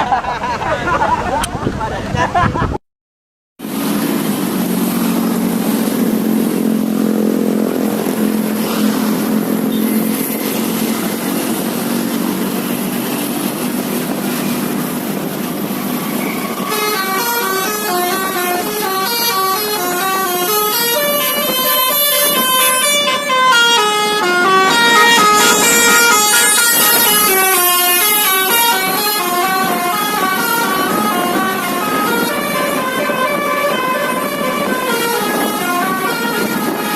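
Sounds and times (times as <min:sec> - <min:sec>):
multi-tone bus horn melody: 0:05.1 - 0:36.9.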